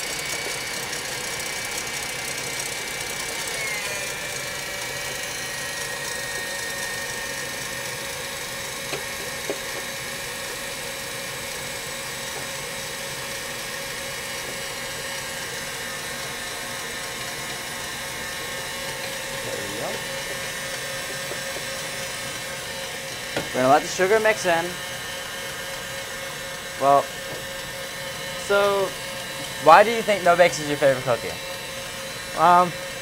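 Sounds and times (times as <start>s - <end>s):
stand mixer whisking: 0.0s - 33.0s.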